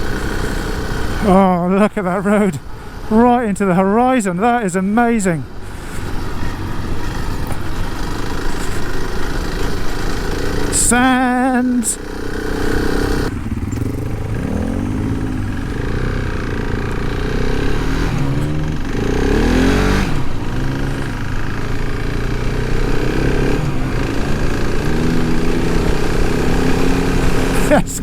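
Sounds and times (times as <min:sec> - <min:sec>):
motorcycle engine revving: 0:00.0 - 0:28.0
wind and road noise: 0:00.0 - 0:28.0.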